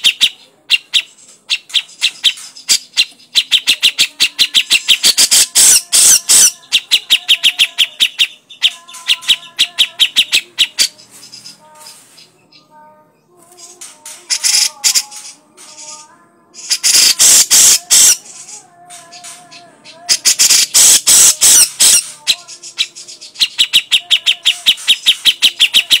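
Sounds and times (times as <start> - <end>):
bird harsh chattering call: 0.0 - 12.3, 14.3 - 16.0, 16.6 - 18.4, 19.1 - 26.0.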